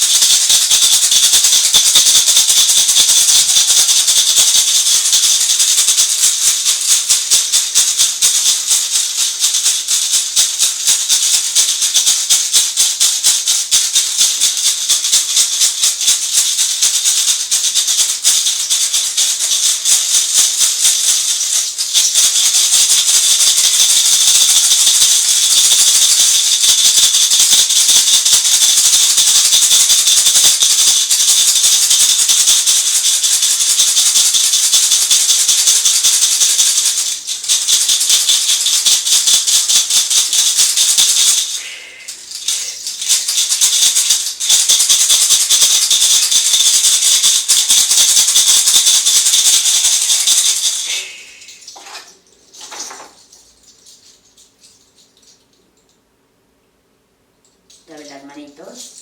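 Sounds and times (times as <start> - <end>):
rattle shaken: 0.0 - 56.1, 57.2 - 59.0.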